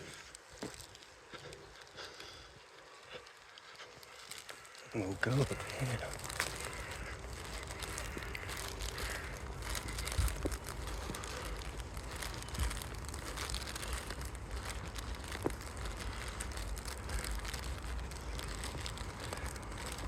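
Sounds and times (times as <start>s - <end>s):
constant low rumble: 0.0s - 20.0s
footsteps on rough footpath: 0.0s - 20.0s
small crackles: 0.0s - 20.0s.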